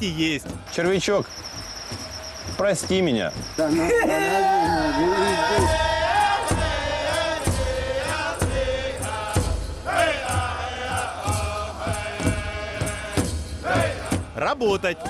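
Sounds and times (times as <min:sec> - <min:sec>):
low thumping beat: 0:00.0 - 0:15.0
voices chanting: 0:00.0 - 0:15.0.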